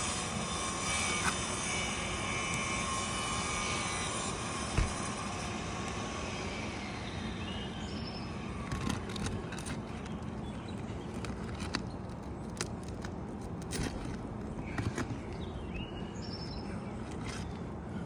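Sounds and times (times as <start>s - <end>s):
clicks and scrapes of shingles: 0.0s - 6.5s, 8.5s - 15.9s, 16.9s - 17.8s.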